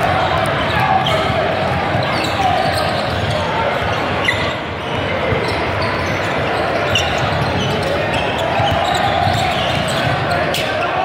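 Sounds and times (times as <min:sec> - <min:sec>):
background chatter: 0:00.0 - 0:11.0
sneaker squeaks: 0:00.3 - 0:11.0.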